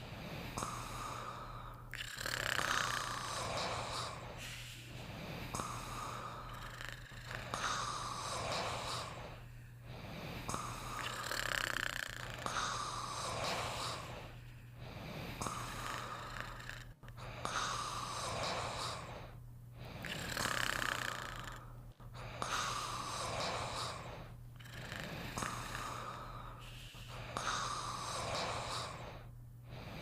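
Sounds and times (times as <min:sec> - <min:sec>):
rasping snore: 0:00.0 - 0:09.4, 0:10.0 - 0:14.3, 0:14.9 - 0:30.0
steady low hum: 0:00.0 - 0:30.0.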